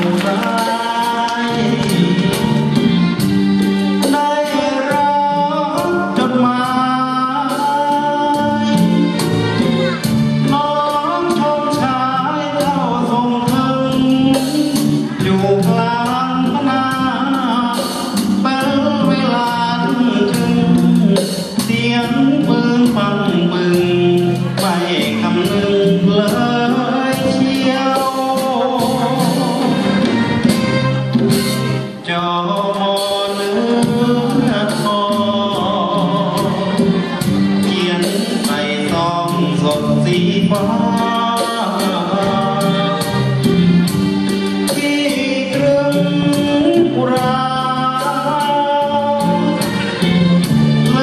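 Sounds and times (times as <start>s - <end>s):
man singing into a microphone: 0.0s - 3.2s, 4.0s - 9.7s, 10.3s - 30.3s, 31.9s - 43.6s, 44.6s - 51.0s
orchestral accompaniment: 0.0s - 51.0s.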